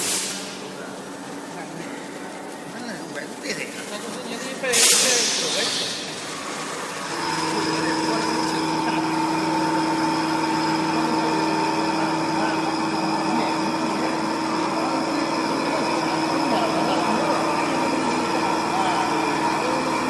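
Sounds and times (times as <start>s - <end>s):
machining center whine: 0.0s - 20.0s.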